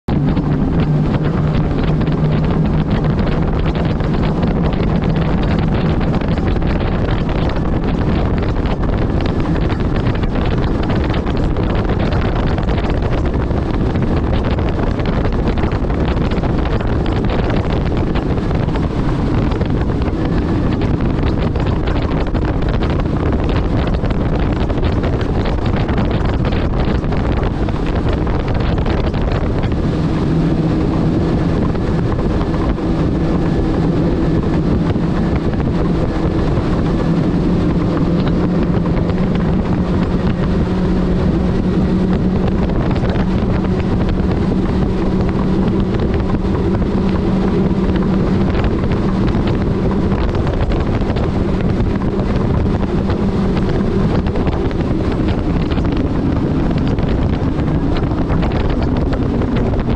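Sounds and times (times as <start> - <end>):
outboard motor droning: 0.0 - 59.9
wind buffeting microphone: 0.0 - 59.9.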